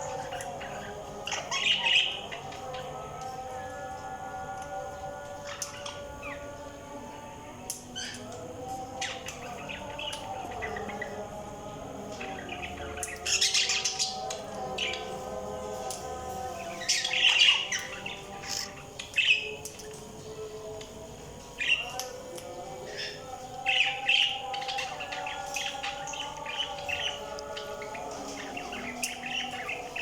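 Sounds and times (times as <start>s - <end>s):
budgies chirping and warbling: 0.0s - 7.0s, 7.6s - 30.0s.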